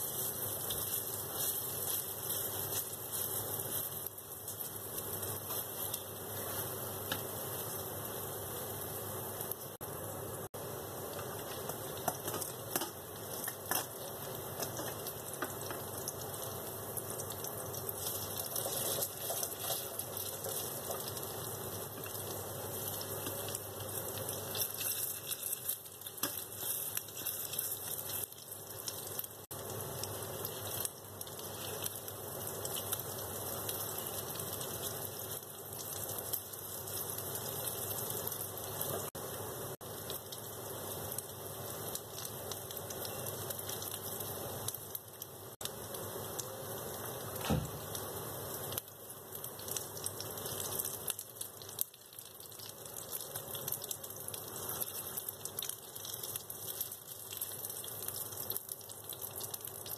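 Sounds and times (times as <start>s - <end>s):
fritters sizzling in hot oil: 0.0s - 59.9s.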